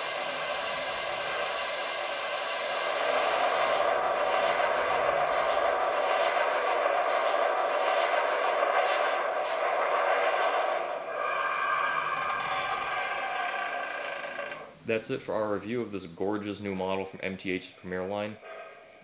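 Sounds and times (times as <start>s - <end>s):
steam hissing from speaker: 0.0s - 19.0s.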